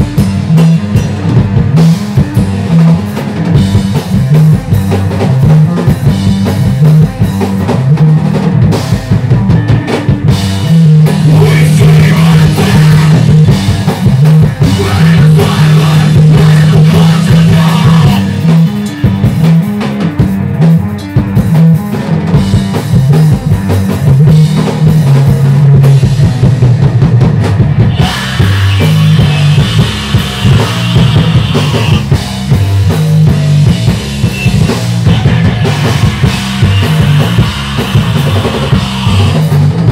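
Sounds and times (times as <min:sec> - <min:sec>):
low electric guitar riff: 0:00.0 - 0:21.1, 0:24.4 - 0:39.9
drumming with cymbals: 0:00.0 - 0:39.9.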